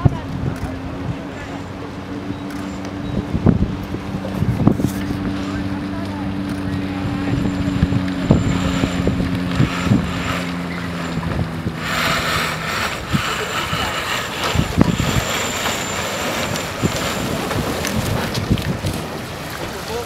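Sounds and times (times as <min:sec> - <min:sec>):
boat engine humming low: 0:00.0 - 0:20.0
water washing: 0:00.0 - 0:20.0
wind buffeting microphone: 0:00.0 - 0:20.0.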